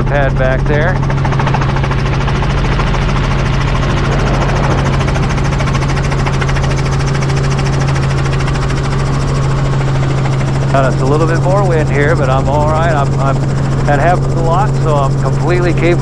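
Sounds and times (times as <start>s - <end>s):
helicopter engine and rotor: 0.0s - 16.0s.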